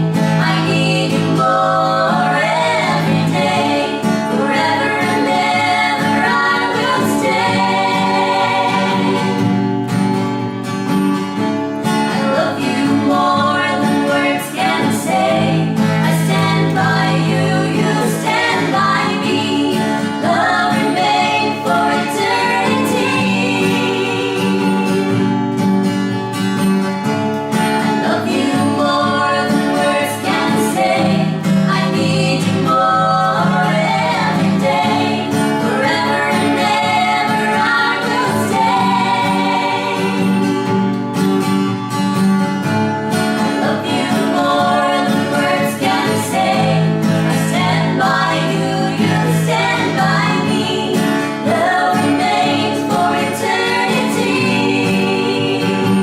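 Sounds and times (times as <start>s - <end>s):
people singing slow song: 0.0s - 10.0s, 11.8s - 25.4s, 27.8s - 41.0s, 43.2s - 56.0s
guitar accompaniment: 0.0s - 56.0s.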